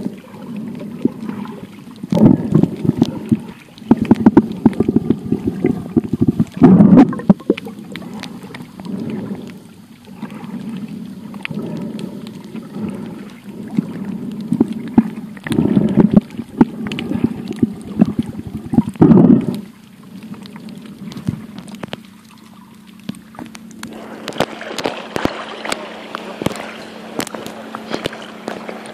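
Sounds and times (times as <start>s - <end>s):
muffled underwater sloshing: 0.0s - 28.9s.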